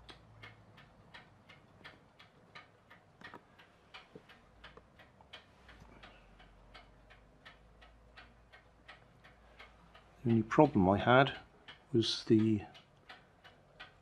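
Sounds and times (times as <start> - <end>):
faint uneven ticking: 0.0 - 14.0.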